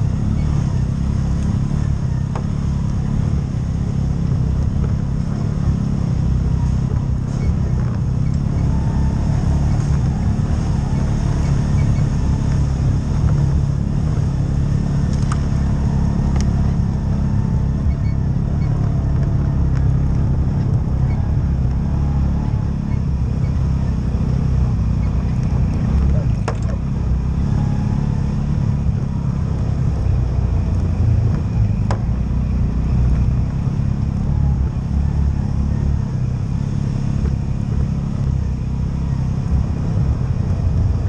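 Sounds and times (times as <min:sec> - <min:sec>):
vehicle engine droning: 0:00.0 - 0:41.0.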